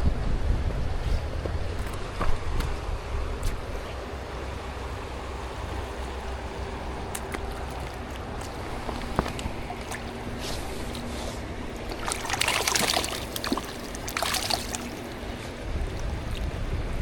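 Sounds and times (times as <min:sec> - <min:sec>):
flowing river water: 0:02.1 - 0:17.0.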